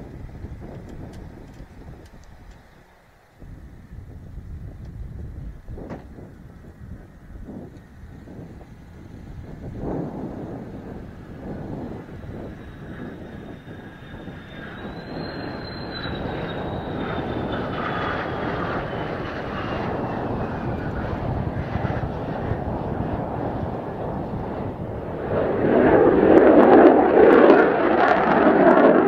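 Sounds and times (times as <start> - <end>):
jet engine whine: 0.0 - 29.0
jet roar: 0.0 - 29.0.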